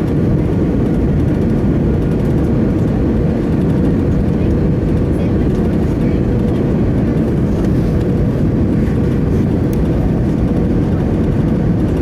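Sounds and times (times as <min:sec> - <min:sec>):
jet engine and airflow rumble: 0:00.0 - 0:12.0.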